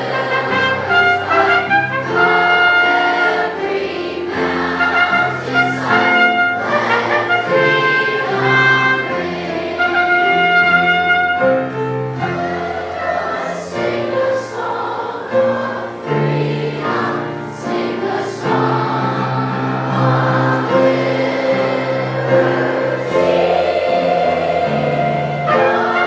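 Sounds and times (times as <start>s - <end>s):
children's choir singing: 0.0s - 26.0s
instrumental accompaniment: 0.0s - 26.0s.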